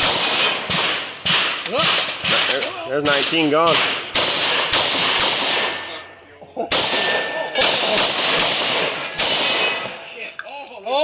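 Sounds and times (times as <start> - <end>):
shotgun shots: 0.0 - 6.0, 6.7 - 10.0.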